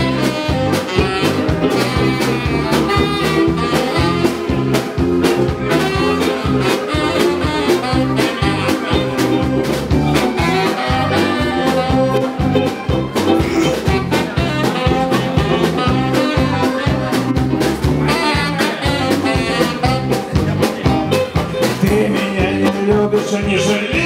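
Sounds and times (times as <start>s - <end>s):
saxophone playing: 0.0s - 22.7s
swing beat with bass and chords: 0.0s - 24.0s.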